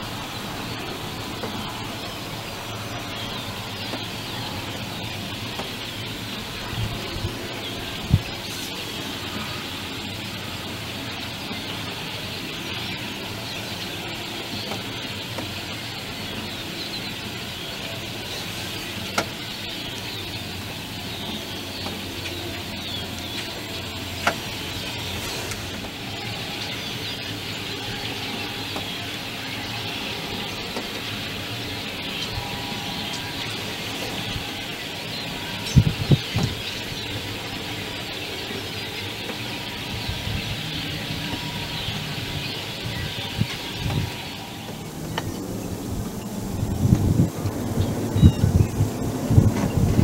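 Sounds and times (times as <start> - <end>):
outdoor background hiss: 0.0 - 50.0.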